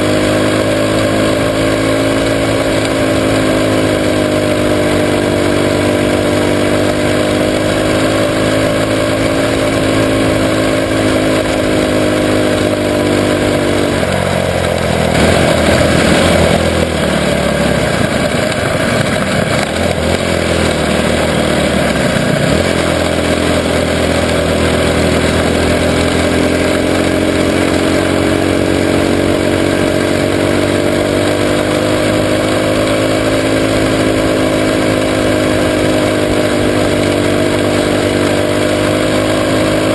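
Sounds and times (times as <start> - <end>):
race car engine at high revs: 0.0 - 39.9
second car engine alongside: 0.0 - 39.9.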